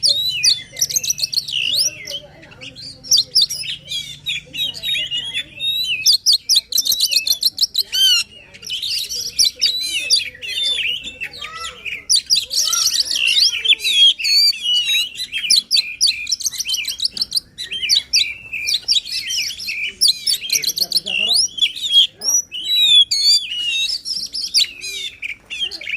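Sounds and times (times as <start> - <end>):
songbird whistles and trills: 0.0 - 25.9.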